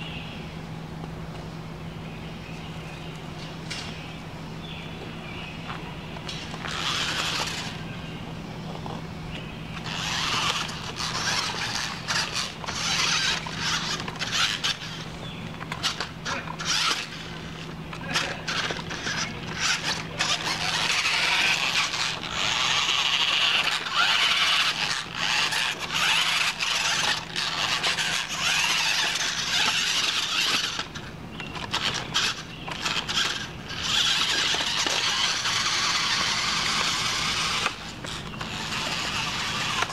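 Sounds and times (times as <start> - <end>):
electric motors whining: 5.6 - 39.9.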